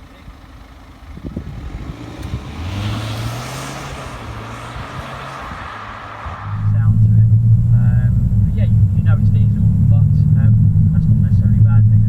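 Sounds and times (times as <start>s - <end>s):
diesel car engine rumble: 0.0s - 12.0s
tyre and road noise: 0.0s - 12.0s.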